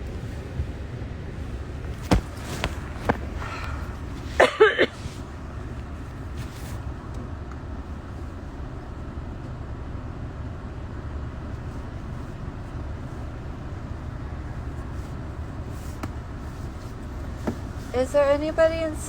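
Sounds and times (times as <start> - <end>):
vehicle rumble inside cabin: 0.0 - 19.0.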